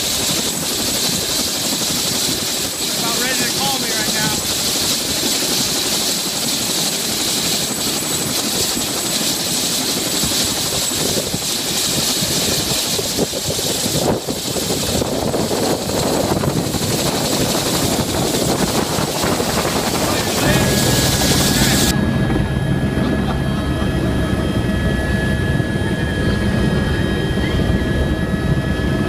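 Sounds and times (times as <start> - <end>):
helicopter idling with rotor turning: 0.0 - 29.0.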